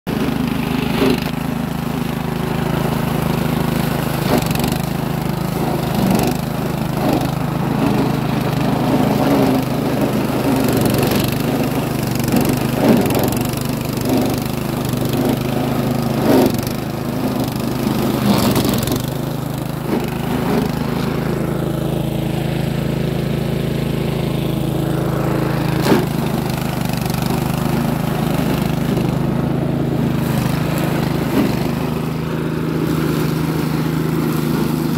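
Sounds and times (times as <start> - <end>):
grass mulcher engine running: 0.0 - 34.9.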